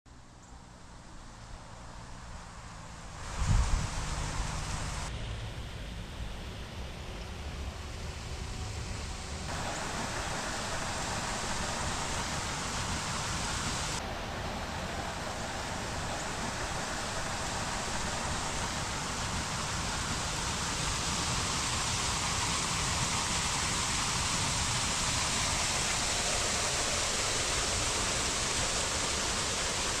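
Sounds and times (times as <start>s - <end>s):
waterfall rushing: 2.9s - 5.1s, 8.2s - 30.0s.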